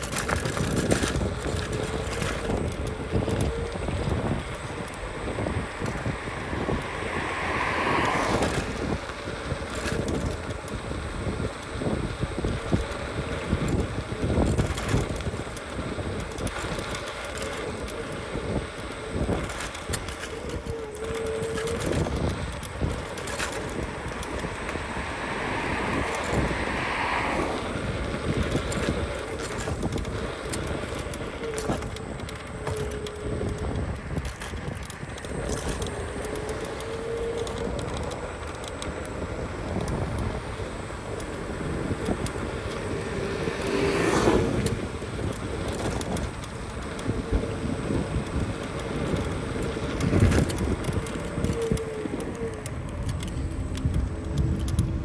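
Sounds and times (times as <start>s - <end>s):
scooter rattling and knocking: 0.0s - 55.0s
wind buffeting microphone: 0.0s - 55.0s.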